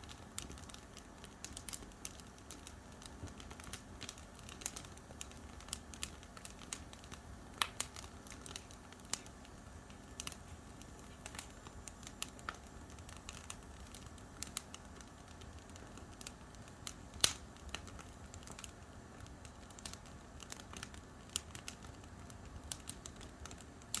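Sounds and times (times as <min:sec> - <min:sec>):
campfire crackling and popping: 0:00.0 - 0:24.0
low fire hiss: 0:00.0 - 0:24.0.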